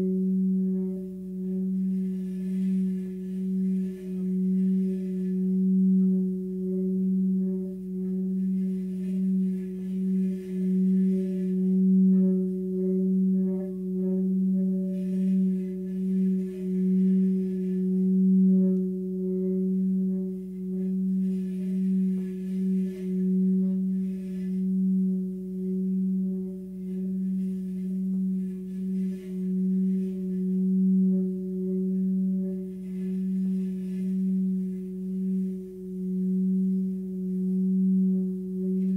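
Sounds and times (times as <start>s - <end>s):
singing bowl tone: 0.0s - 38.9s
stick rubbing bowl rim: 0.0s - 38.9s.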